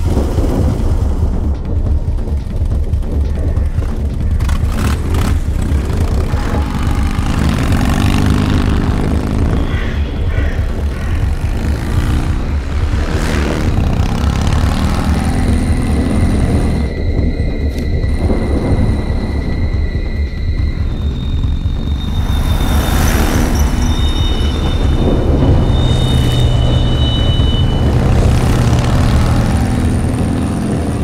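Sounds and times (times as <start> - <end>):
motorcycle engine revving: 0.0 - 31.0
music: 0.0 - 31.0
steady high tones: 3.2 - 31.0.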